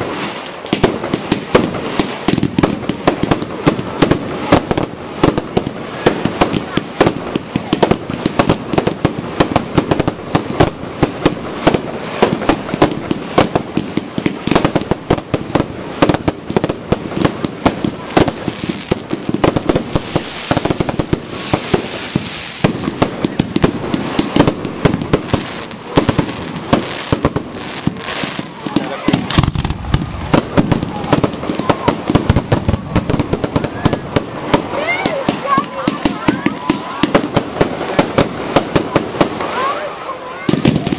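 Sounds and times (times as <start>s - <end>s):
fireworks bangs and cracks: 0.0s - 40.9s
fireworks crackling hiss: 0.0s - 40.9s.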